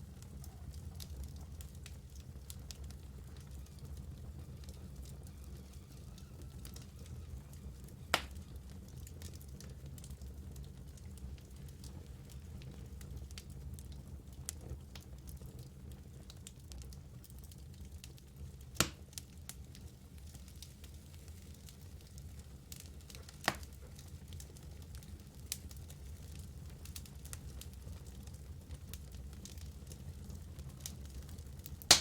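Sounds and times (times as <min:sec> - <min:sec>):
fire crackling: 0:00.0 - 0:32.0
fire rumbling: 0:00.0 - 0:32.0.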